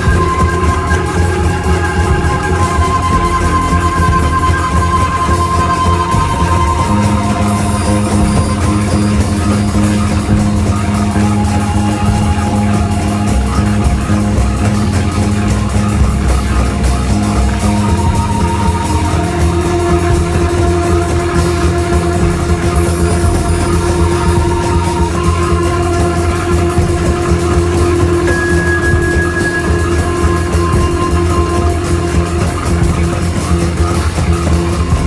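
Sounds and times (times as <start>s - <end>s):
drums and bass groove: 0.0s - 35.0s
held guitar and keyboard notes: 0.0s - 35.0s
instrumental band music: 0.0s - 35.0s.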